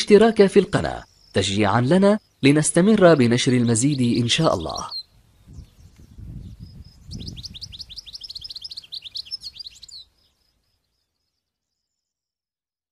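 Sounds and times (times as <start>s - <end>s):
bird twittering song: 0.0s - 12.4s.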